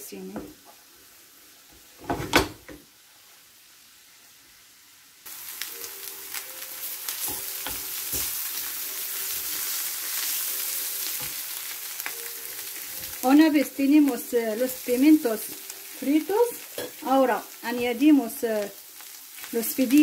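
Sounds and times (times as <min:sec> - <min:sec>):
vegetables sizzling in frying pan: 0:00.0 - 0:20.0.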